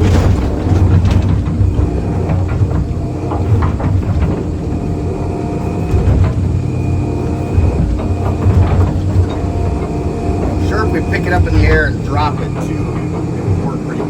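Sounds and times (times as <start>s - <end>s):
diesel engine under load: 0.0s - 14.0s
hydraulic whine: 0.0s - 14.0s
light knocks and clanks: 0.0s - 14.0s.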